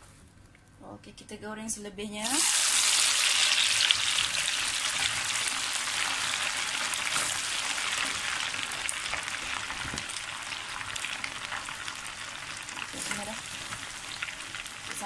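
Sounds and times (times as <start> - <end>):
oil sizzling and crackling: 2.2 - 15.0.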